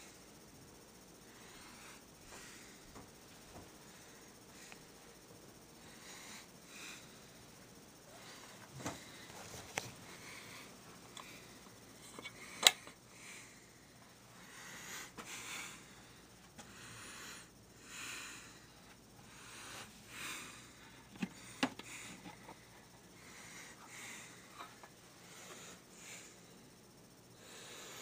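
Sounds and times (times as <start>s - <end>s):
person breathing: 1.2s - 28.0s.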